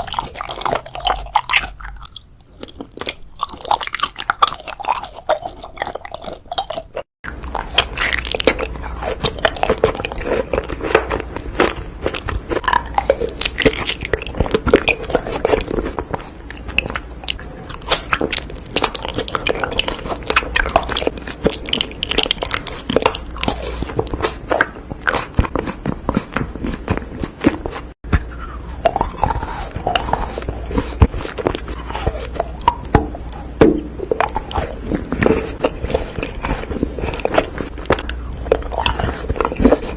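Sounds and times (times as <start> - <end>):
wet mouth sounds: 0.0 - 11.3, 12.1 - 39.9
crunchy bites and chewing: 0.0 - 39.9.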